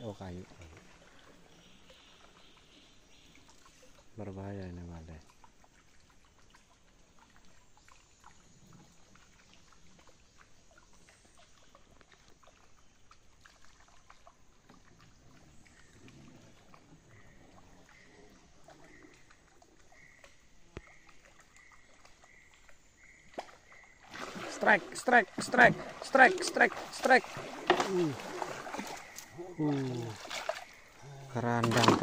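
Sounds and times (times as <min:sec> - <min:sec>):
small water sounds: 0:00.0 - 0:32.0.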